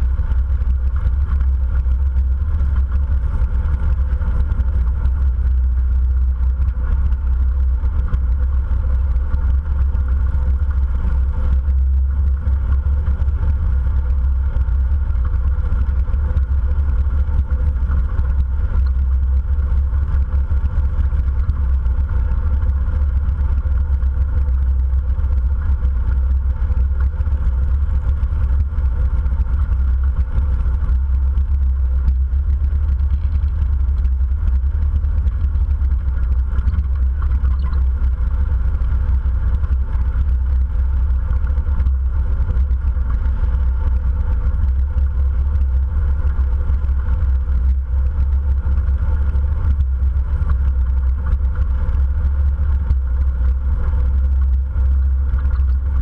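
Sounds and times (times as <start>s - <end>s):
motorcycle engine low rumble: 0.0s - 56.0s.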